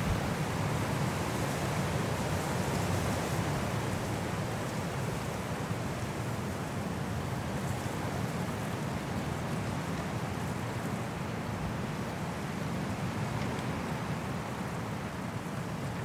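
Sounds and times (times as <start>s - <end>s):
high wind through trees: 0.0s - 16.0s.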